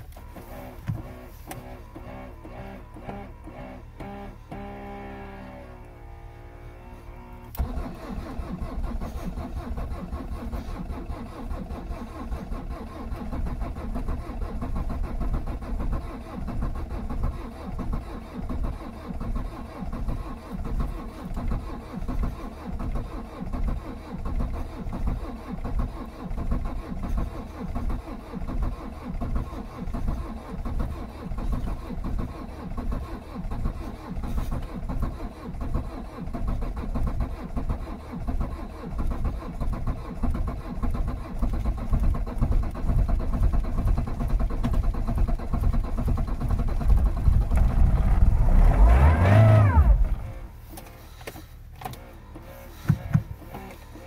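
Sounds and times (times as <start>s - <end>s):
diesel engine cold starting: 0.0s - 54.0s
diesel engine running unevenly: 0.0s - 54.0s.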